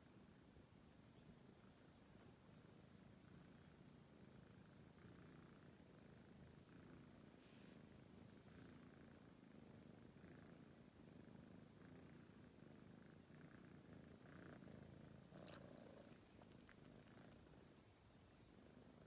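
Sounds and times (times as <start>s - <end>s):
kitten purring: 0.1s - 19.0s.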